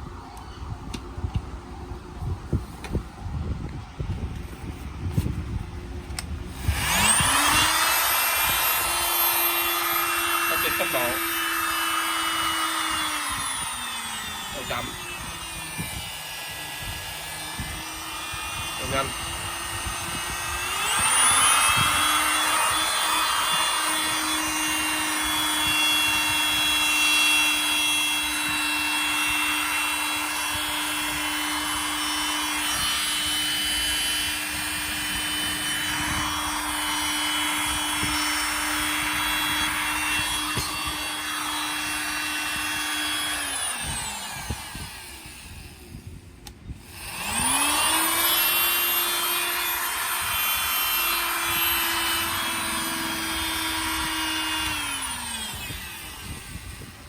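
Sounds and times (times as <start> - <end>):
oscillating multi-tool running: 6.2 - 57.0.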